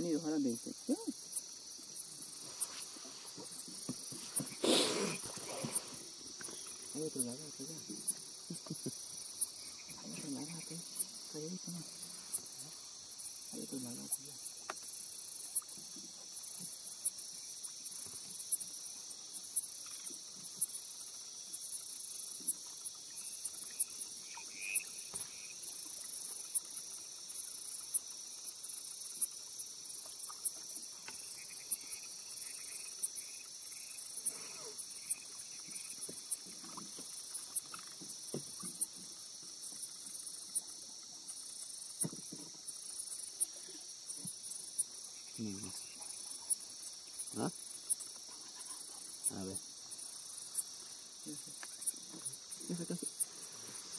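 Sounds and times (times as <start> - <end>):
insect chorus shrill: 0.0 - 53.9.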